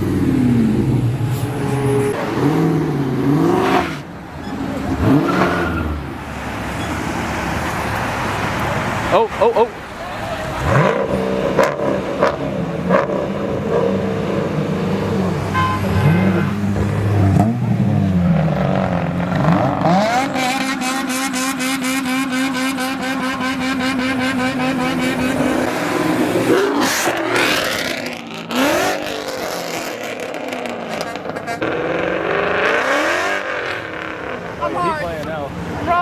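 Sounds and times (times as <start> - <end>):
car passing close: 0.0 - 36.0
sports car engines revving: 0.0 - 36.0.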